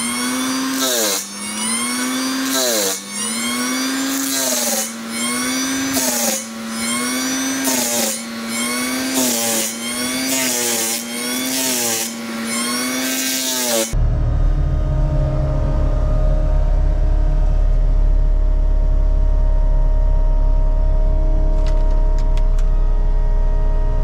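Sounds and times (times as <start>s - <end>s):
shredding noise: 0.0s - 22.7s
forestry mulcher engine: 0.0s - 24.0s.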